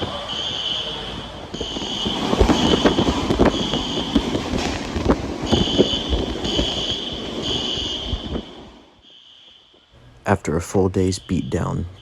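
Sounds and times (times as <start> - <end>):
electronic fire alarm beeping: 0.0 - 4.8, 5.4 - 12.0.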